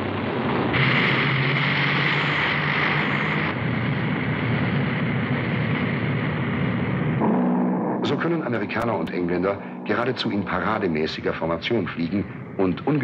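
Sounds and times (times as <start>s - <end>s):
propeller engines droning: 2.6s - 13.0s.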